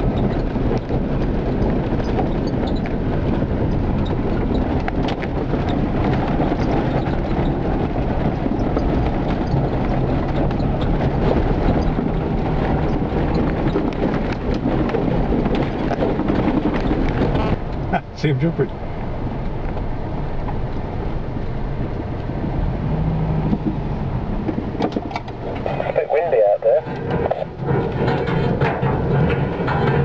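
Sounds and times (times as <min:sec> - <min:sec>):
knocks and rattles: 0:00.0 - 0:18.0, 0:23.4 - 0:30.0
engine and tyre rumble: 0:00.0 - 0:30.0.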